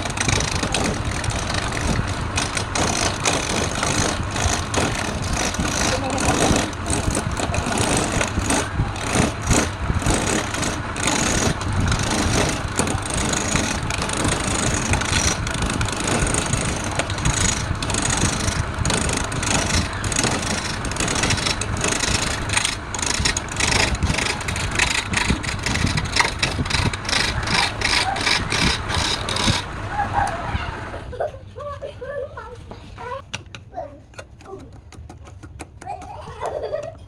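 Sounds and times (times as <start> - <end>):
tool rasping on spinning wood: 0.0 - 30.4
wood lathe running: 0.0 - 30.9.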